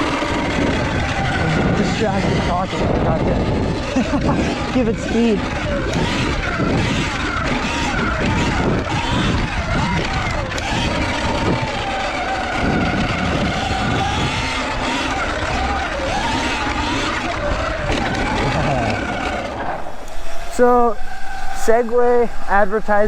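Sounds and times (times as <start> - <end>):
electric motorbike motor whining: 0.0 - 23.0
wind rumble on microphone: 0.0 - 23.0.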